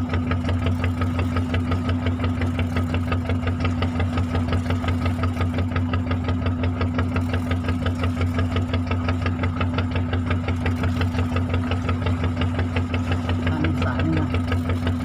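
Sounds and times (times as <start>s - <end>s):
boat engine knocking: 0.0s - 15.0s.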